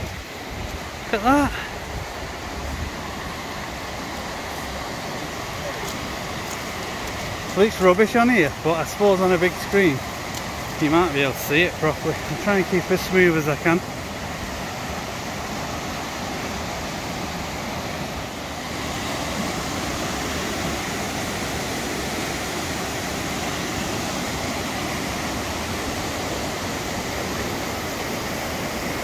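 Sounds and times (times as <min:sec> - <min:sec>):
stream rushing over small waterfalls: 0:00.0 - 0:29.0.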